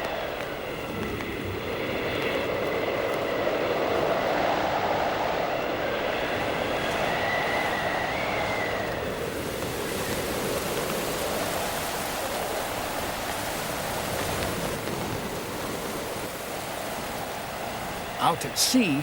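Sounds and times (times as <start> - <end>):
gale-force wind: 0.0 - 19.0
rushing sea water: 0.0 - 19.0.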